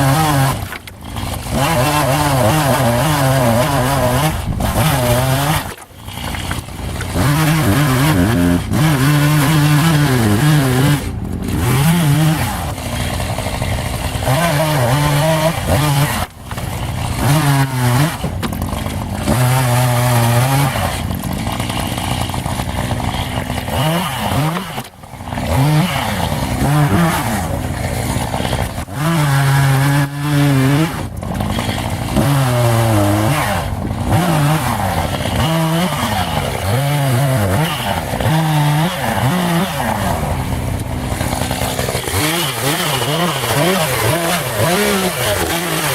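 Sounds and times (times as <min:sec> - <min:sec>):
chainsaw cutting firewood: 0:00.0 - 0:45.9.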